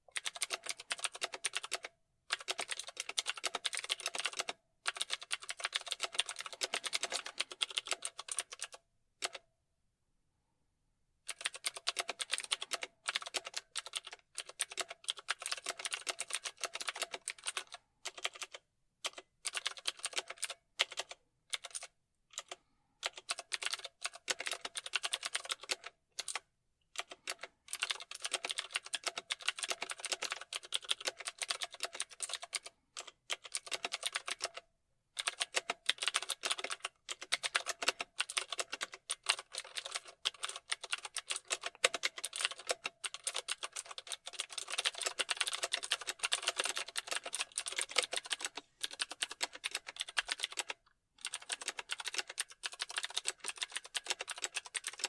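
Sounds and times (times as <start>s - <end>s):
keyboard typing: 0.1s - 9.4s, 11.3s - 34.6s, 35.2s - 55.0s.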